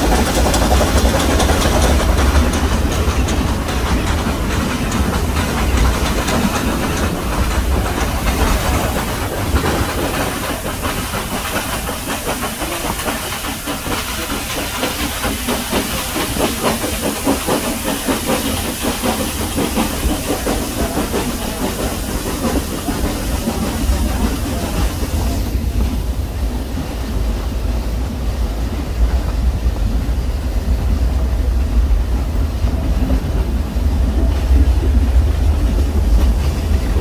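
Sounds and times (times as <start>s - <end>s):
wheels on rails: 0.0s - 30.2s
steam train hiss and beat: 0.0s - 37.0s.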